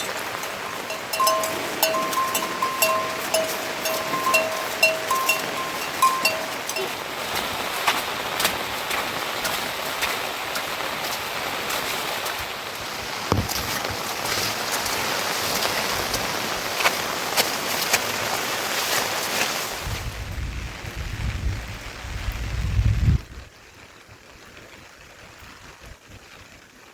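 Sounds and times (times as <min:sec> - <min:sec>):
raindrops ticking close by: 0:00.0 - 0:26.9
steady rain falling: 0:00.0 - 0:26.9.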